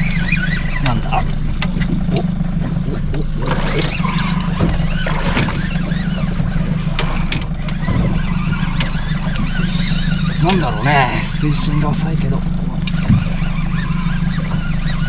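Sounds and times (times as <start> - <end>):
boat engine humming: 0.0 - 15.0
water around boat: 0.0 - 15.0
wind: 0.0 - 15.0.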